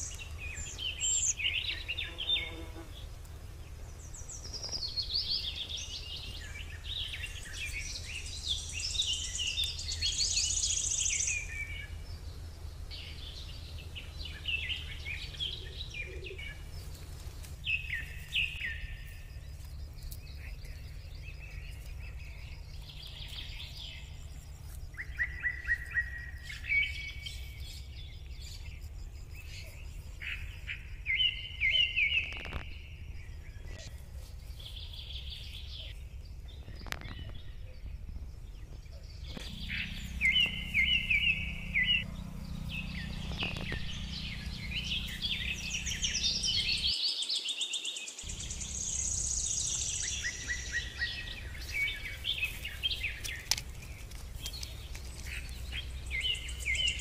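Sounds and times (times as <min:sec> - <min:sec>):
birds chirping and singing: 0:00.0 - 0:57.0
steady low rumble: 0:02.9 - 0:47.0, 0:48.3 - 0:57.0.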